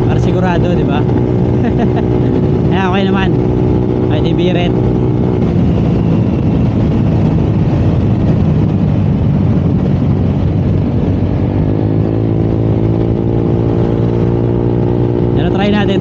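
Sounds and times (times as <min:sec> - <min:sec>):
scooter engine running: 0:00.0 - 0:16.0
wind rushing over microphone: 0:00.0 - 0:16.0.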